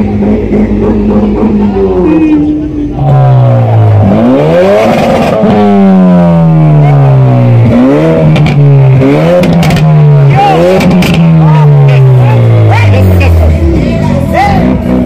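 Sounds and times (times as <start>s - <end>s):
car engine revving: 0.0s - 15.0s
exhaust cracks: 0.0s - 15.0s.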